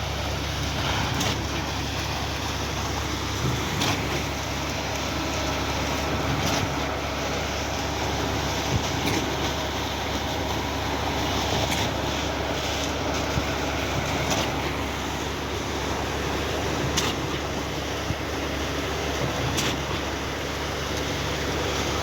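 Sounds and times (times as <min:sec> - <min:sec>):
concrete pump engine drone: 0:00.0 - 0:22.0.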